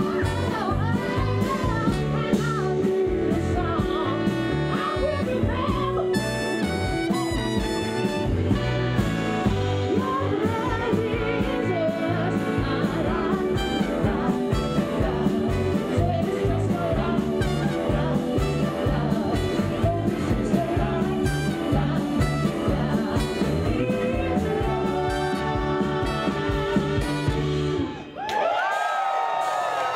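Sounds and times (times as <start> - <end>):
woman singing lead vocal: 0.0 - 7.3, 9.5 - 27.3
live soul-rock band: 0.0 - 28.2.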